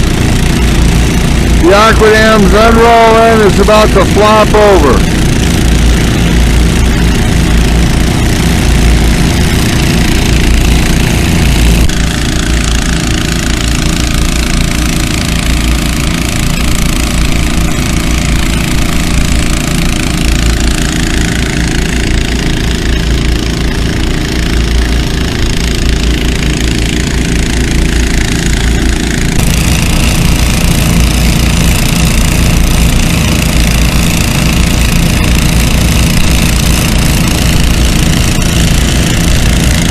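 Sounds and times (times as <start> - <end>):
water pump engines running: 0.0 - 39.9.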